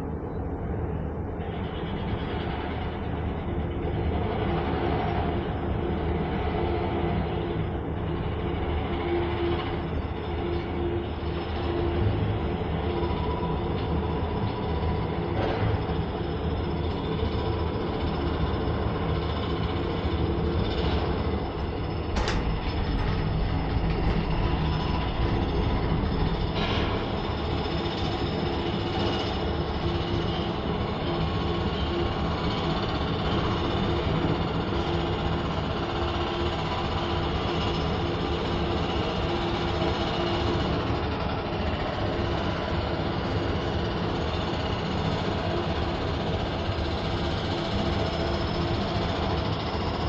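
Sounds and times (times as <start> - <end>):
cable car rumble and hum: 0.0 - 50.0.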